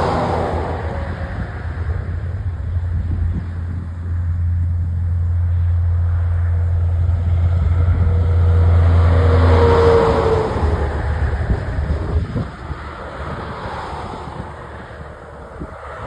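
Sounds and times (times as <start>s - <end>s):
diesel truck engine labouring: 0.0s - 16.0s.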